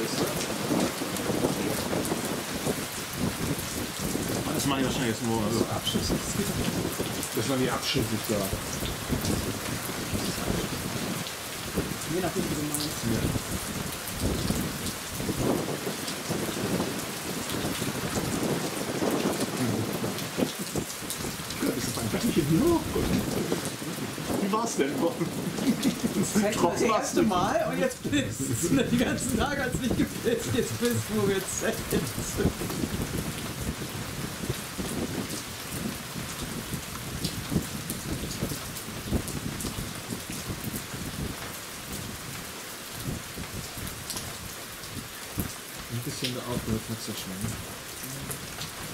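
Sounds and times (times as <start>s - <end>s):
heavy rain: 0.0s - 48.9s
raindrops hitting a surface: 0.0s - 48.9s.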